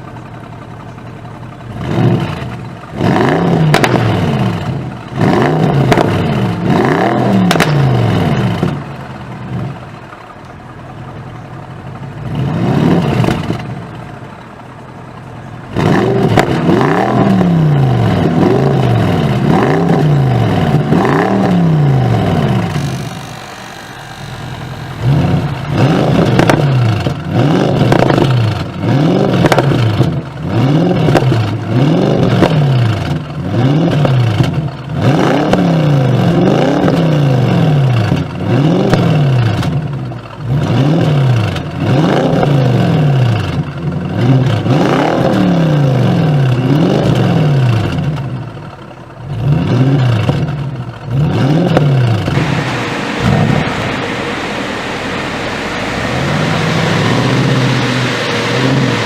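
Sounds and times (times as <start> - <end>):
car engine idling: 0.0 - 59.0
car engine revving: 1.6 - 14.4, 15.6 - 59.0.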